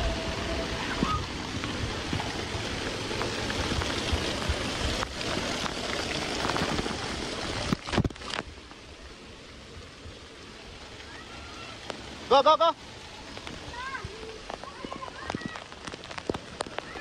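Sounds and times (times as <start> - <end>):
water rushing and splashing: 0.0 - 17.0.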